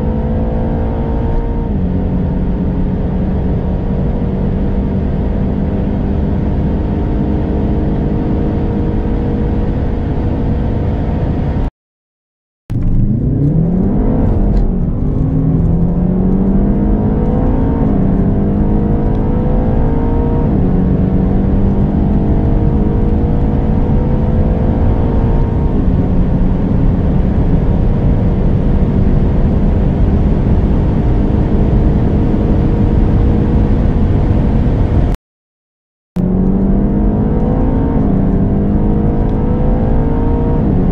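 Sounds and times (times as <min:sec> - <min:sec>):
engine revving through upshifts: 0:00.0 - 0:11.4, 0:12.8 - 0:35.2, 0:36.2 - 0:40.9
car engine at full throttle: 0:00.0 - 0:11.7, 0:12.7 - 0:35.2, 0:36.2 - 0:40.9.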